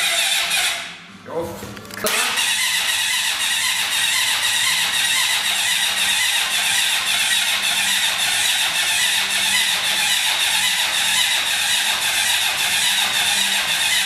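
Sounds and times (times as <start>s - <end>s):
motorcycle engine running: 2.4s - 14.0s.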